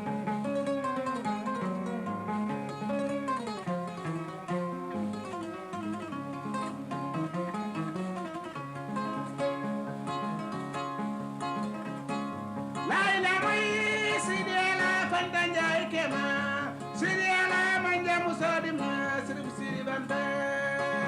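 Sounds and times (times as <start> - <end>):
plucked harp-lute: 0.0 - 21.0.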